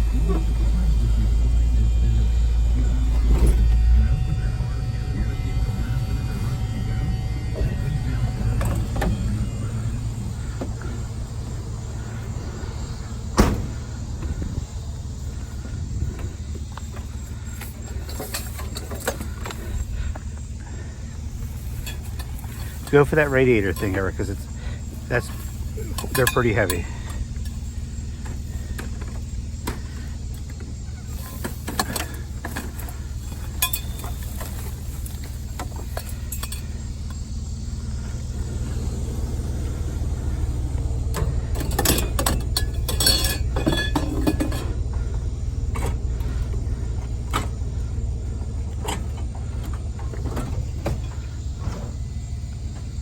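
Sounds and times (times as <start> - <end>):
low engine rumble: 0.0 - 53.0
scrap metal clanking: 5.1 - 52.9.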